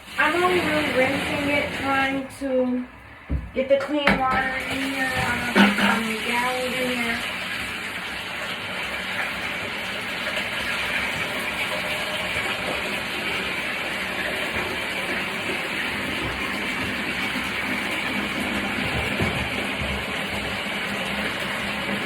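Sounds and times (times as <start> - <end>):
water running into a tub: 0.0 - 22.0.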